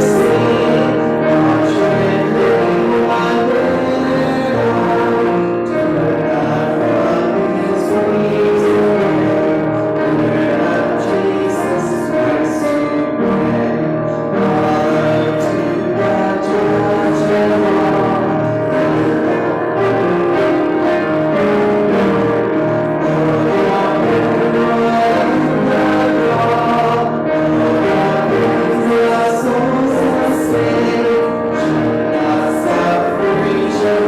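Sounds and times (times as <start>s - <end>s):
congregation singing a hymn: 0.0s - 34.0s
instrumental accompaniment: 0.0s - 34.0s.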